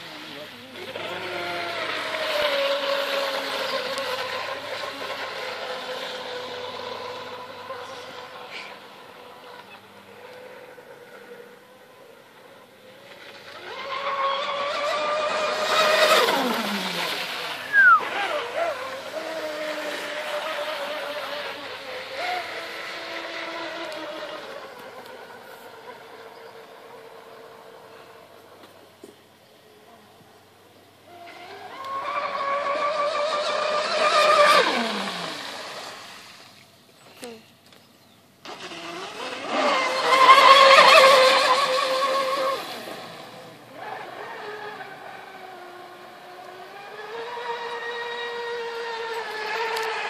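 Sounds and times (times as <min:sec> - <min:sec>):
toy boat motor whining: 0:00.0 - 0:50.0.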